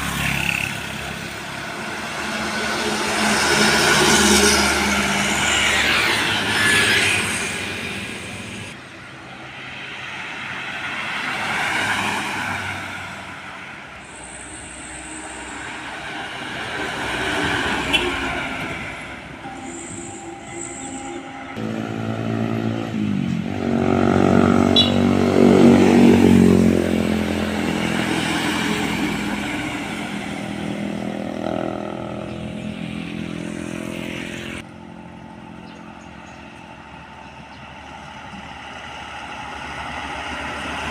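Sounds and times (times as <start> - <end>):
diesel engine pulling past: 0.0 - 40.9
trucks and buses driving past: 0.0 - 40.9.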